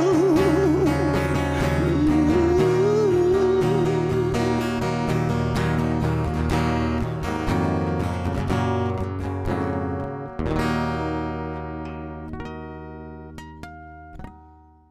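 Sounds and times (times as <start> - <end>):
acoustic guitar strumming: 0.0 - 14.8.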